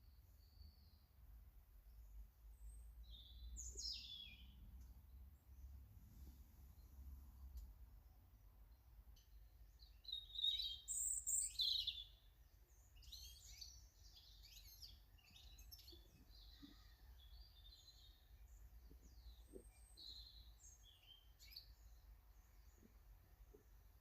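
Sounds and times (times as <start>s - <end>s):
small birds chirping: 0.0s - 5.9s, 6.6s - 24.0s.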